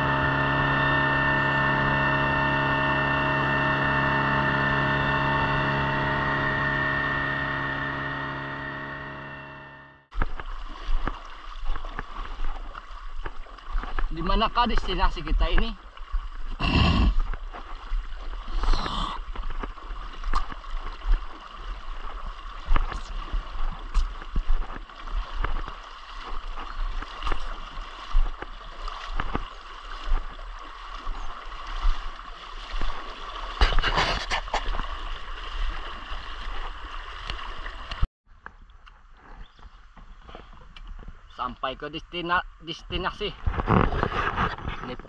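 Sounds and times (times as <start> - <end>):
loud water splashes: 0.0 - 38.1
river water rushing and gurgling: 0.0 - 38.1.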